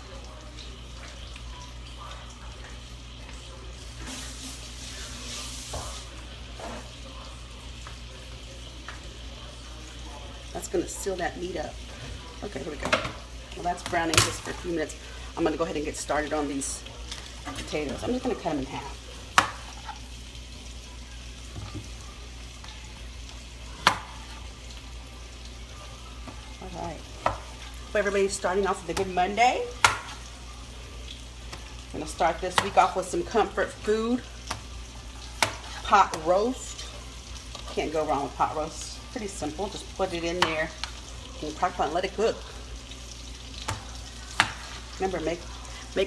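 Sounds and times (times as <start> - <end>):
meat sizzling in a skillet: 0.0 - 46.0.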